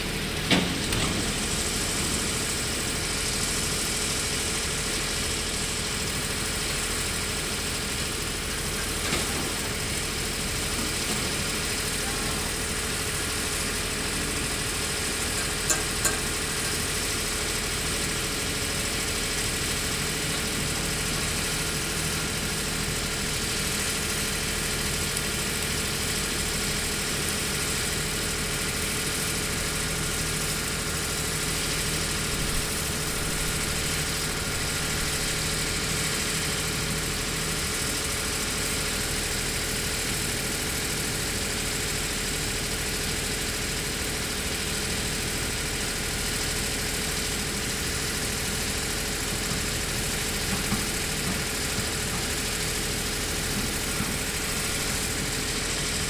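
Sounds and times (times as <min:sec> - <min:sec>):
excavator diesel engines running: 0:00.0 - 0:56.0.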